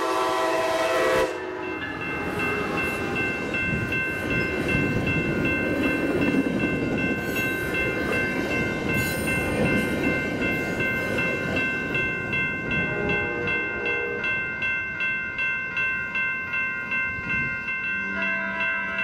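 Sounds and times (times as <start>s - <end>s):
railroad crossing bell ringing: 0.0s - 19.0s
train rumble: 0.0s - 19.0s.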